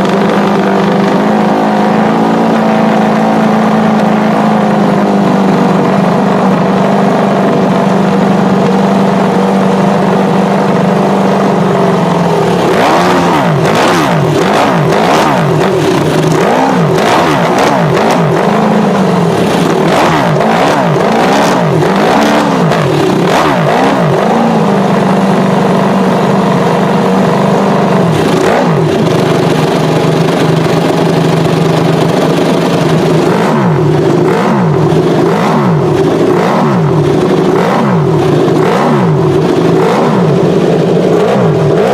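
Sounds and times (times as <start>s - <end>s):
motorcycle engine idling: 0.0s - 41.9s
motorcycle throttle blips: 0.0s - 41.9s.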